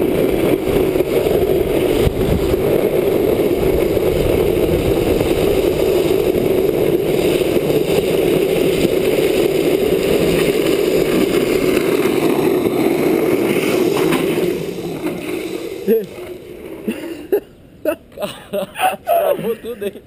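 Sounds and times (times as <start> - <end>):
wind rushing: 0.0 - 17.0
wheels rolling on wet road: 0.0 - 17.6.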